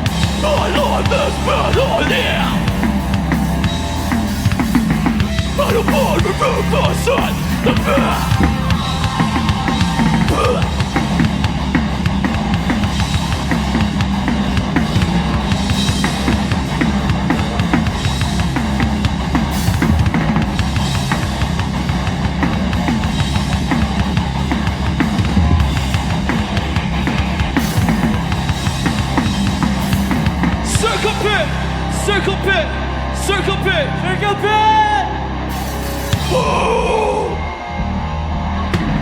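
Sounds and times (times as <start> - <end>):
drum kit: 0.0 - 32.5, 35.5 - 37.4, 38.7 - 39.0
hardcore band playing: 0.0 - 39.0.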